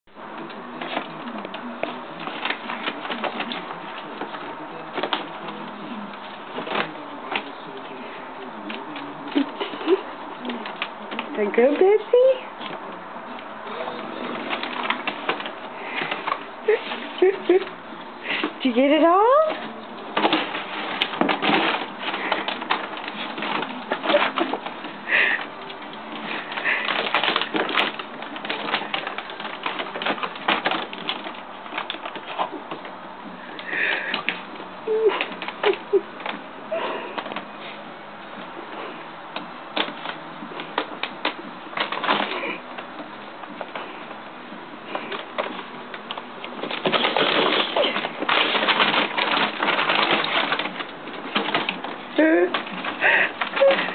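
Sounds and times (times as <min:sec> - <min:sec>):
plastic bag crinkling: 0:00.2 - 0:53.9.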